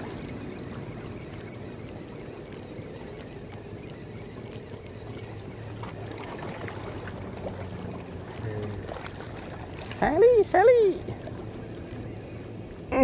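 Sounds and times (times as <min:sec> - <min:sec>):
fishing reel whirring: 0:00.0 - 0:13.0
wind and sea rumble: 0:00.0 - 0:13.0.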